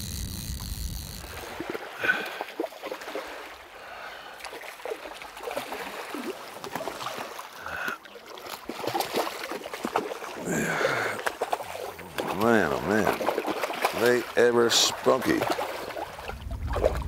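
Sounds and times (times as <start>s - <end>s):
river water rippling: 0.0s - 17.0s
fish splashing at surface: 0.1s - 17.0s.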